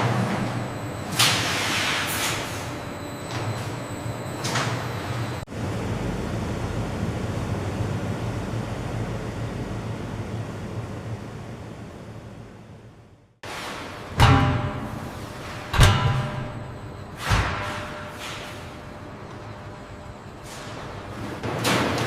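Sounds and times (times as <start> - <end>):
factory machinery humming: 0.0 - 22.0.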